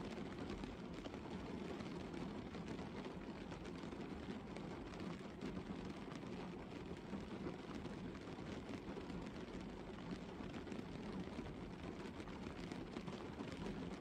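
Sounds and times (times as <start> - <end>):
rain falling on a car: 0.0 - 14.0.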